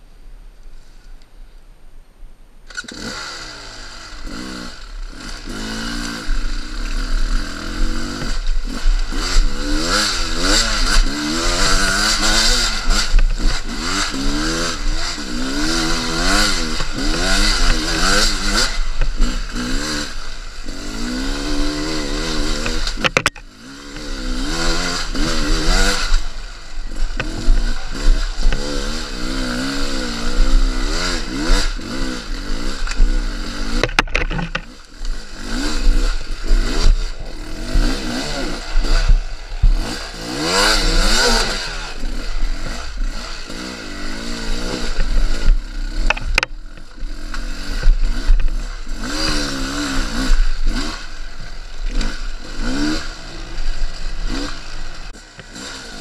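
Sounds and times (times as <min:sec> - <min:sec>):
two-stroke motorcycle engine revving: 0:02.7 - 0:56.0.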